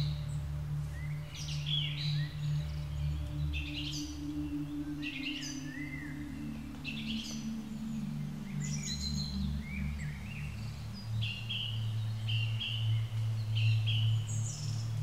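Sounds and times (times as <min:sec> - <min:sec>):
birds chirping and whistling: 0:00.0 - 0:15.0
low sustained drone: 0:00.0 - 0:15.0.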